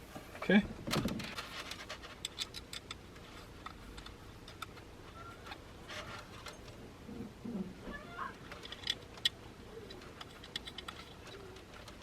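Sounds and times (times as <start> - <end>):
small parts clicking and tapping: 0.9 - 6.8, 8.0 - 12.0.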